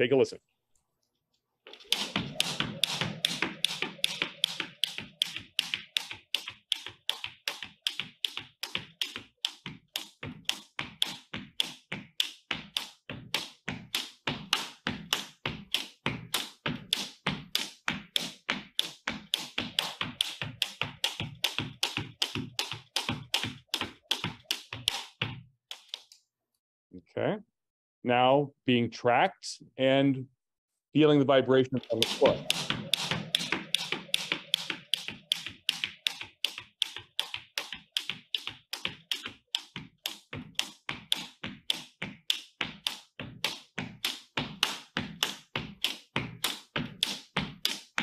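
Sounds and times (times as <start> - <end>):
rapid taps on wooden floor: 1.7 - 26.1, 31.8 - 48.0.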